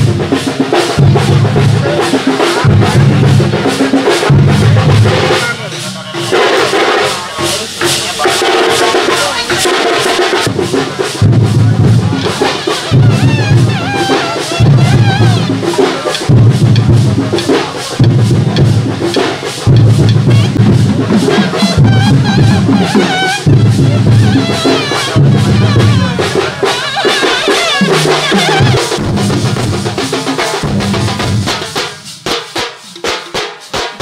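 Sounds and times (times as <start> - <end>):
heavy drumming: 0.0 - 34.0.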